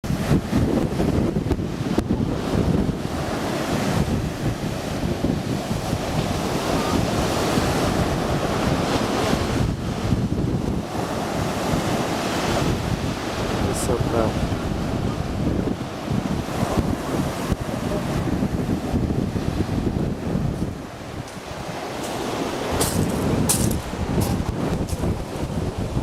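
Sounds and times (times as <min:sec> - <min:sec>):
rough surf breaking on shore: 0:00.0 - 0:26.0
wind buffeting microphone: 0:00.0 - 0:26.0.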